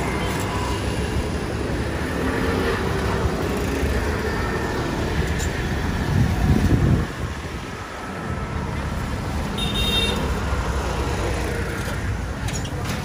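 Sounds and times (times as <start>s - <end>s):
roadside traffic noise: 0.0s - 13.0s.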